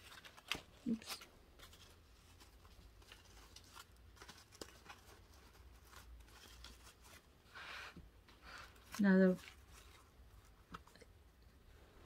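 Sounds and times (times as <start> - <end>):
ribbon and twine rustling: 0.0 - 11.1.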